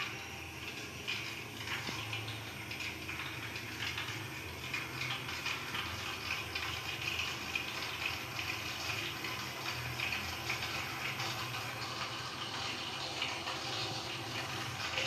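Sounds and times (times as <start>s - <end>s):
water running from a hose: 0.0s - 15.0s.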